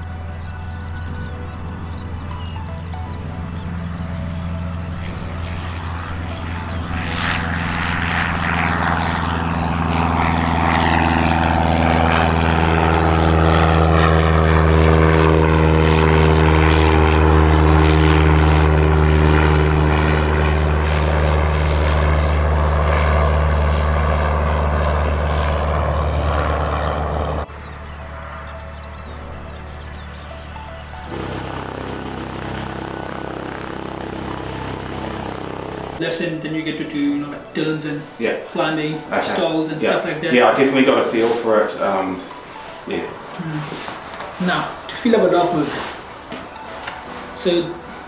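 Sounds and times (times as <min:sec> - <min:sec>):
propeller plane flying past: 0:00.0 - 0:48.0.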